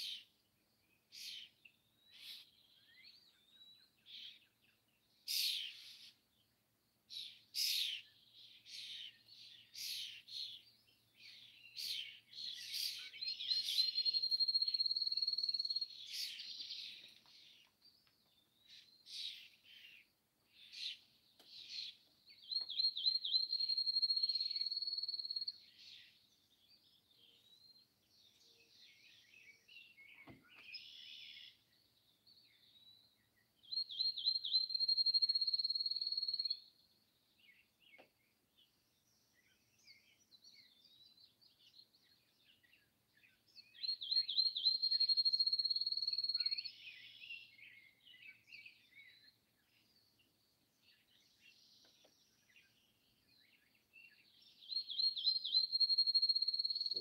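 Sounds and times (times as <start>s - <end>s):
birds chirping softly: 0.0s - 57.0s
songbird singing a trill: 0.0s - 57.0s.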